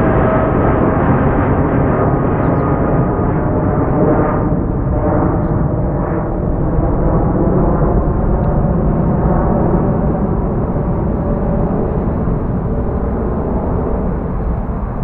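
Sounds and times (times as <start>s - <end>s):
jet engine deep rumble: 0.0s - 15.0s.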